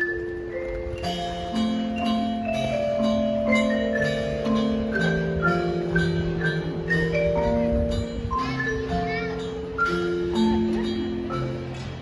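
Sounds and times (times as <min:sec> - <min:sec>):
mallet percussion melody: 0:00.0 - 0:12.0.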